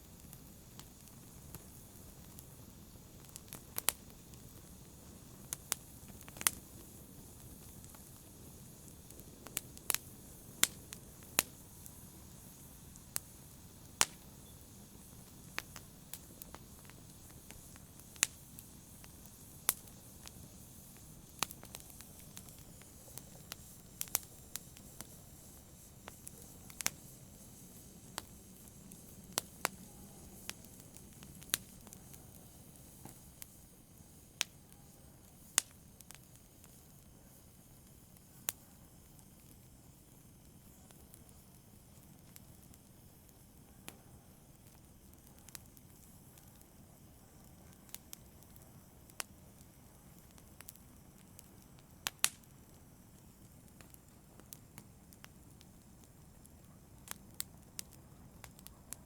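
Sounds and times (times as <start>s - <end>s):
rushing of flames: 0.0s - 59.0s
wood fire crackling: 0.0s - 59.0s.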